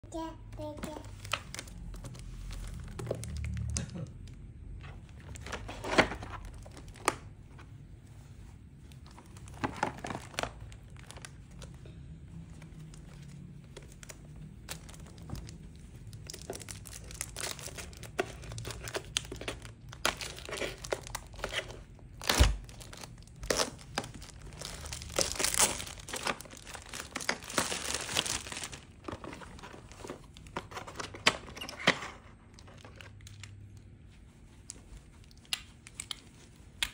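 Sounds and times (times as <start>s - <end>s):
plastic wrap crinkling and tearing: 0.9s - 7.4s, 8.8s - 36.9s.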